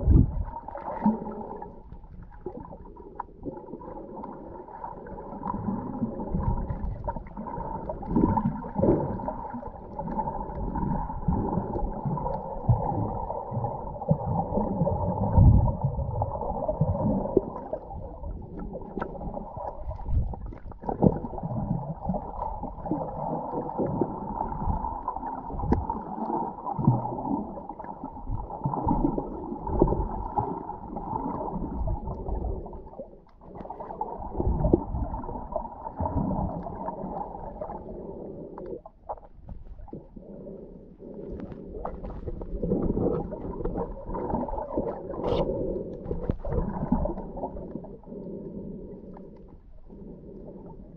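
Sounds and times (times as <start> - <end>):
underwater water rumble and gurgle: 0.0 - 50.9.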